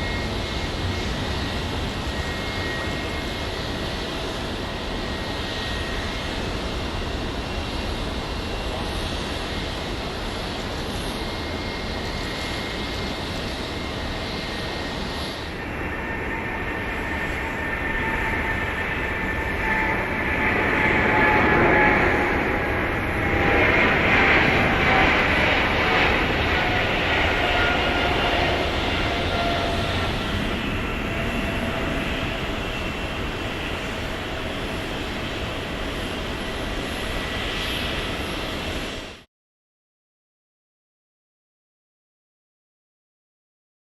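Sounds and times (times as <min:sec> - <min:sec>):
jet engines passing: 0:00.0 - 0:39.3.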